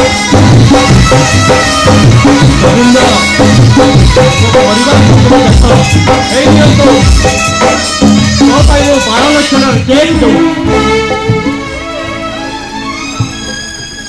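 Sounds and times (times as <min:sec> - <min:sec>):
steady drum beat: 0:00.0 - 0:12.2
melodic instruments playing: 0:00.0 - 0:14.0.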